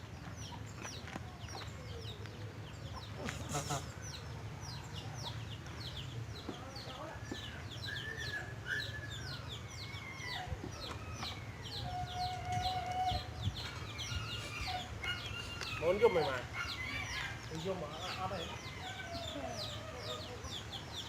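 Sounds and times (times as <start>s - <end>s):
chickens calling low: 0.0s - 21.0s
chicks peeping: 0.0s - 21.0s.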